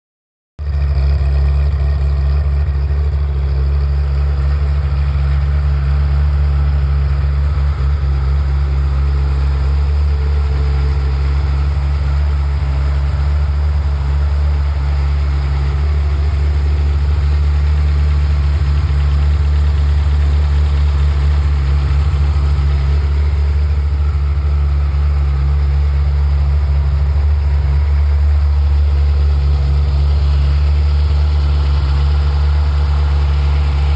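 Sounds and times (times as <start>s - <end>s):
car engine idling: 0.6s - 33.9s.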